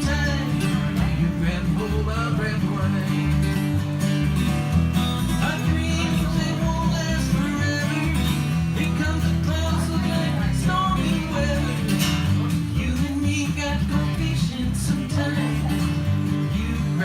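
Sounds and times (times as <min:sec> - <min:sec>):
plucked guitar tune: 0:00.0 - 0:17.0.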